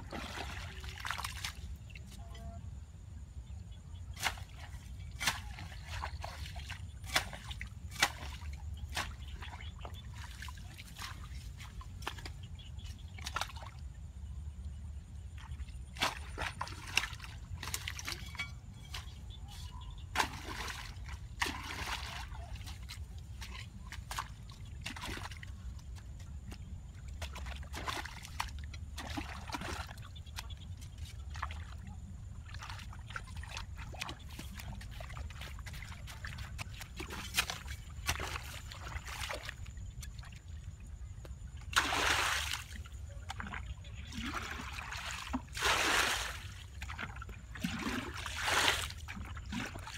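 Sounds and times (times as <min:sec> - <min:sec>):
water splashing and trickling: 0:00.0 - 0:49.9.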